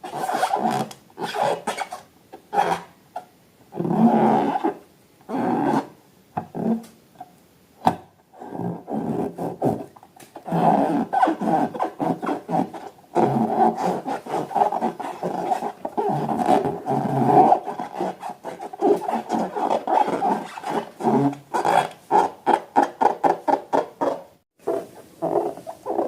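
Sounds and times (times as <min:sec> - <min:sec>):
rubbery rubbing and squeaking: 0:00.0 - 0:05.9, 0:08.4 - 0:26.0.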